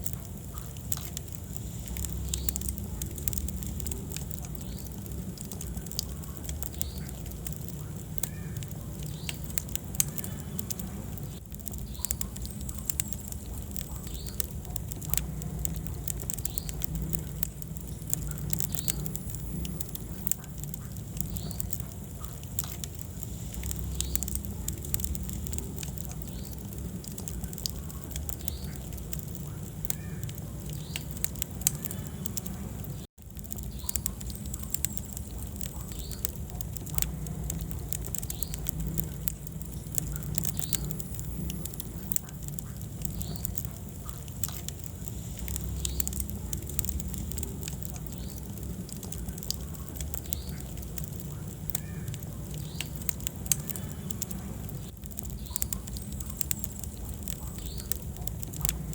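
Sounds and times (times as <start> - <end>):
fire crackling and popping: 0.0 - 58.9
fire flames rumbling: 0.0 - 58.9.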